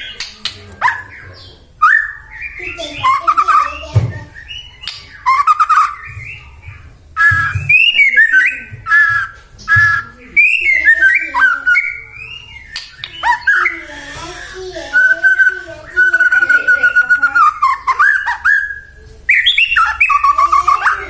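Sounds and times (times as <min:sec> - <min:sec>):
bird singing whistles and trills: 0:00.0 - 0:13.9, 0:14.9 - 0:21.0.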